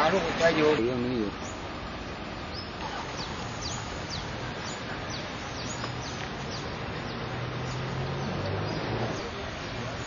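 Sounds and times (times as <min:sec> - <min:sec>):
background hiss: 0:00.0 - 0:10.0
birds chirping: 0:00.0 - 0:10.0.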